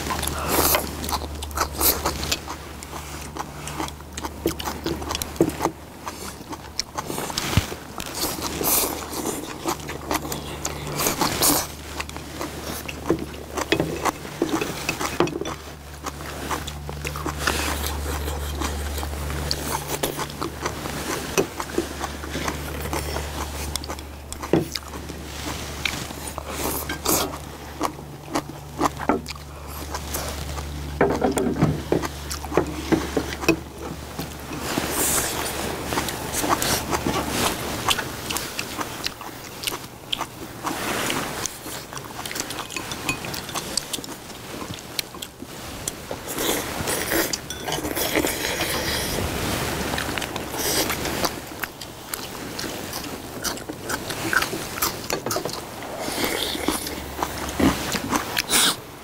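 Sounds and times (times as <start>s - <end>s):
steady low rumble: 0.0s - 47.5s
food being chewed: 0.0s - 59.0s
noodles being slurped: 0.0s - 59.0s.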